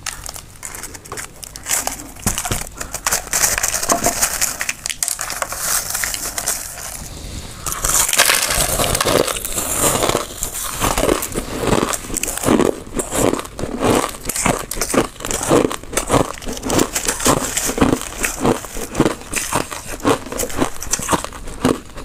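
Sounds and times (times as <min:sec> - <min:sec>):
crushed ice crackling and clinking: 0:00.0 - 0:07.0, 0:07.6 - 0:22.0.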